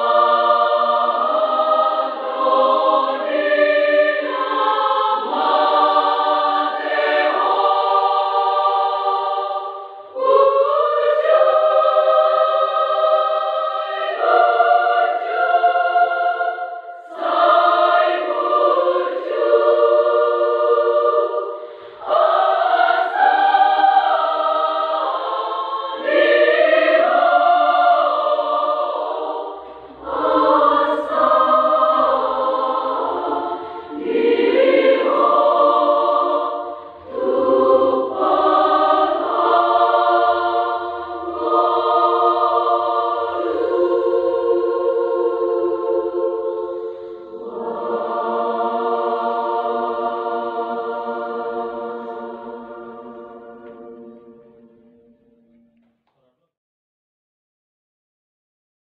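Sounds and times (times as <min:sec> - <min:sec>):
women's choir singing a hymn: 0:00.0 - 0:55.6.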